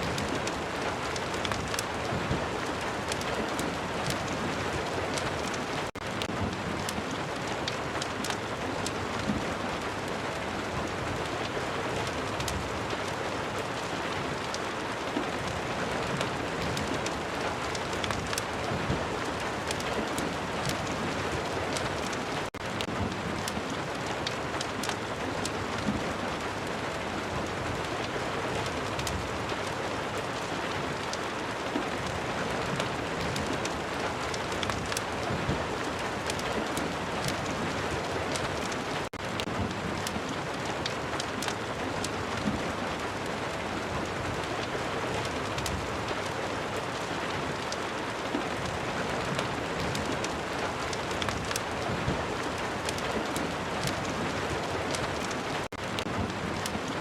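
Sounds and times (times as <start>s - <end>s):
fireplace crackling: 0.0s - 26.9s, 27.8s - 57.0s
steady rain: 0.0s - 57.0s.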